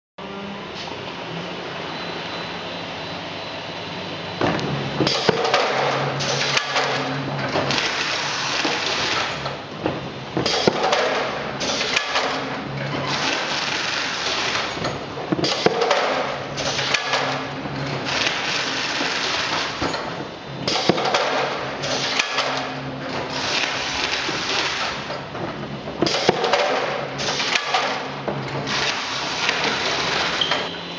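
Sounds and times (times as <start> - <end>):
carton sealer clicking and clattering: 4.4 - 30.7.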